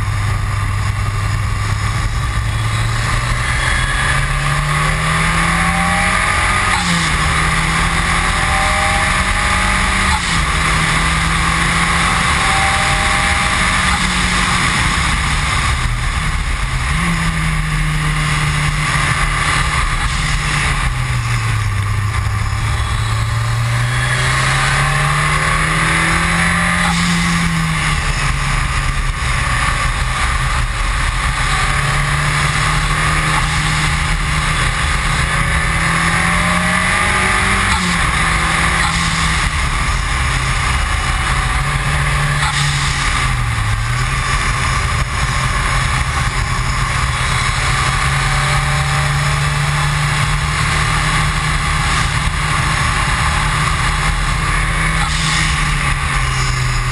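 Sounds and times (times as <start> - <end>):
car engine accelerating: 0.0 - 56.9
wind and road noise: 0.0 - 56.9.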